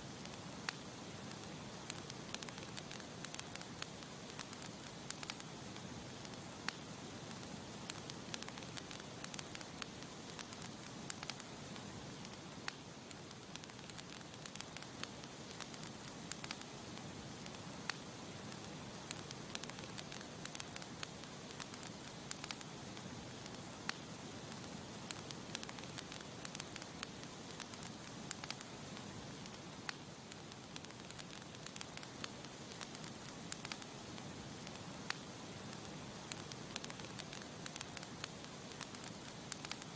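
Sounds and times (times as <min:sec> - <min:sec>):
campfire hissing: 0:00.0 - 0:39.9
wood crackling and popping: 0:00.1 - 0:39.9.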